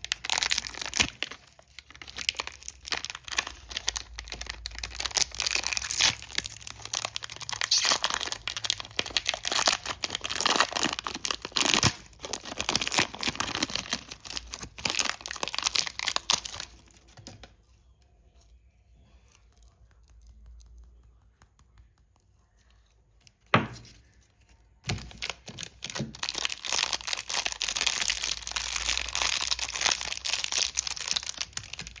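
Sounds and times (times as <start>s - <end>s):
chocolate wrappers crinkling: 0.0s - 23.2s, 24.0s - 32.0s.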